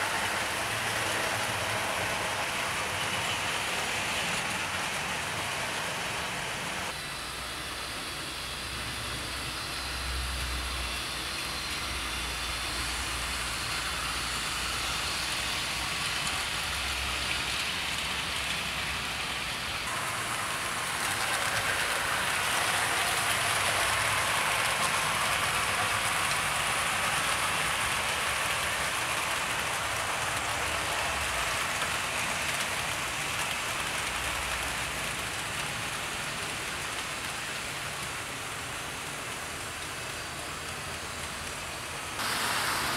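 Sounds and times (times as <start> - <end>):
model train wheels hissing on track: 0.0 - 42.9.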